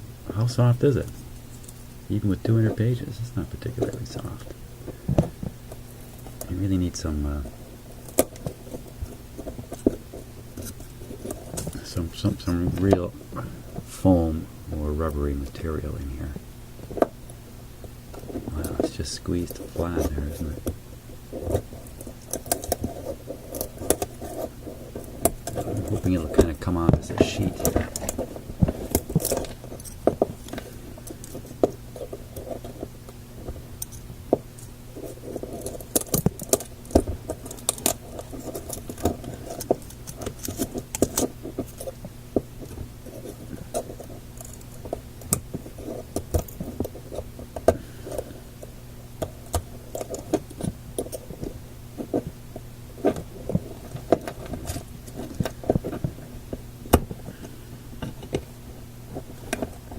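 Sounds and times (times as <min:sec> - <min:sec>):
steady low hum: 0:00.0 - 0:59.9
small clicks taps and scrapes: 0:03.6 - 0:13.9, 0:16.8 - 0:58.5, 0:59.1 - 0:59.9.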